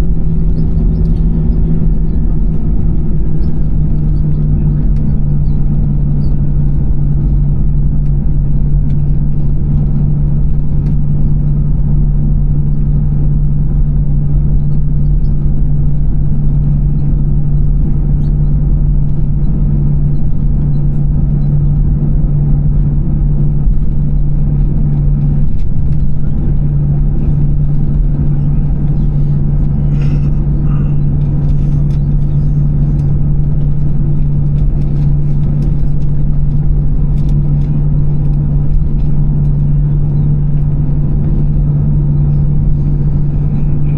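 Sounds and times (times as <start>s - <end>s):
airplane cabin drone: 0.0s - 43.9s.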